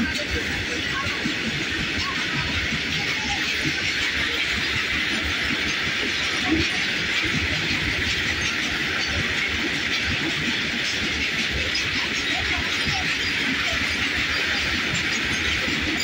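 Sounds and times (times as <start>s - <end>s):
freight wagon wheels rumbling on rails: 0.0s - 16.0s.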